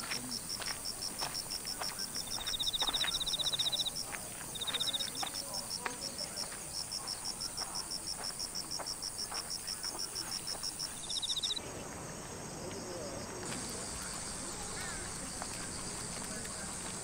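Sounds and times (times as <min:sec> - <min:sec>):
cicadas pulsing chirp: 0:00.0 - 0:17.0
steady insect hiss: 0:00.0 - 0:17.0.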